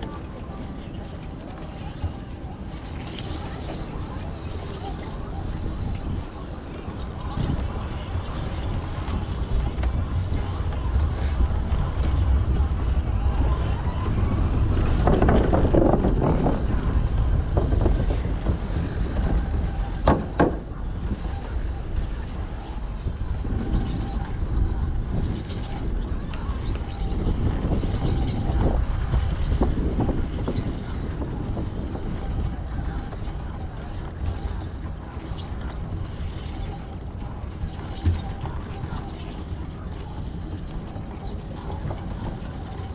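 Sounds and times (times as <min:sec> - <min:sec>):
bicycle rattling and creaking: 0:00.0 - 0:42.9
wind buffeting microphone: 0:00.0 - 0:42.9.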